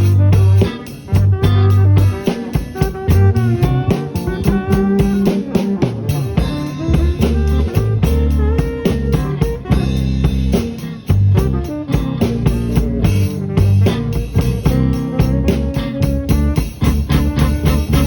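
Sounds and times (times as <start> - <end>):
drum kit: 0.0 - 18.0
guitar with bent notes: 0.0 - 18.0
low bass line: 0.0 - 18.0.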